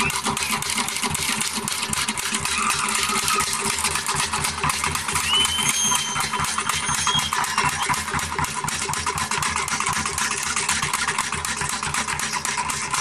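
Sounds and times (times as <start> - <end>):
frame drums beaten fast: 0.0 - 13.0.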